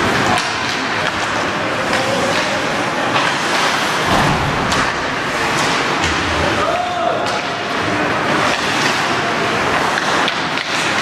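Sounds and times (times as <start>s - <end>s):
hockey sticks and puck knocking: 0.0s - 11.0s.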